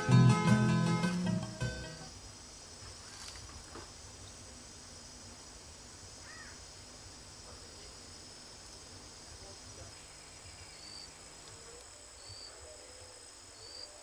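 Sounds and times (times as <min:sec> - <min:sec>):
high insect buzz: 0:00.0 - 0:14.0.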